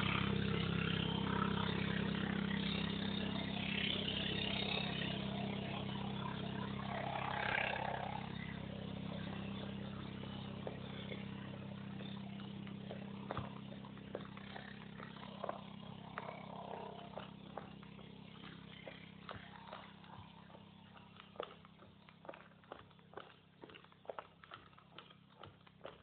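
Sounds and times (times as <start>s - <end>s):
drone rotors humming: 0.0s - 26.0s.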